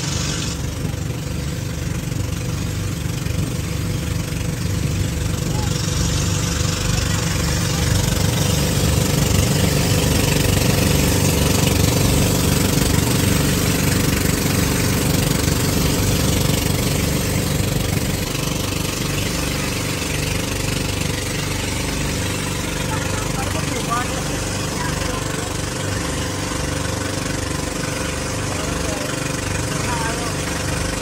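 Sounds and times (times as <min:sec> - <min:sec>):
engine running with throbbing pulse: 0:00.0 - 0:31.0.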